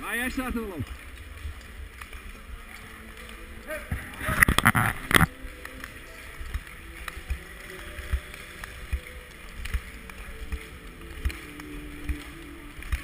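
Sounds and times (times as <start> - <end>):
skates scraping over ice: 0.7 - 13.0.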